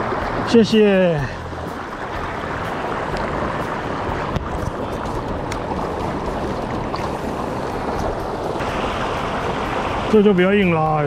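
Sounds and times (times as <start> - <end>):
creek rushing over stones: 0.0 - 11.0.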